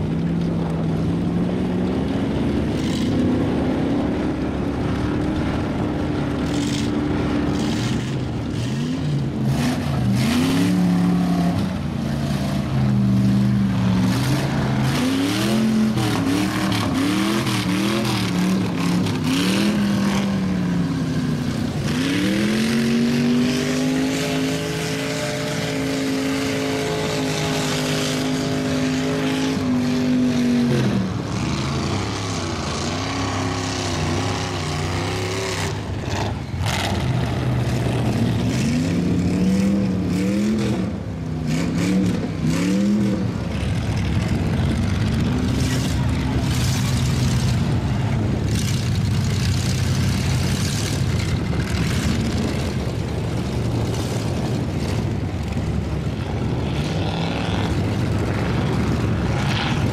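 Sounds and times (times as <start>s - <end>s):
tires spinning in mud: 0.0s - 59.9s
truck engine revving: 0.0s - 59.9s.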